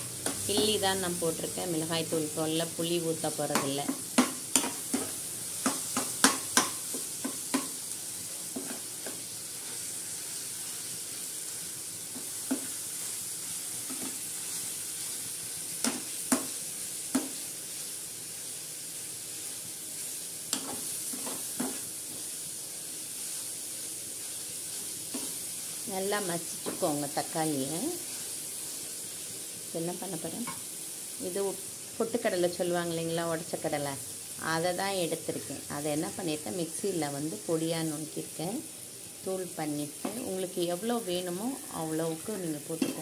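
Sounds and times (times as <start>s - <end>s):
onions frying in oil: 0.0s - 43.0s.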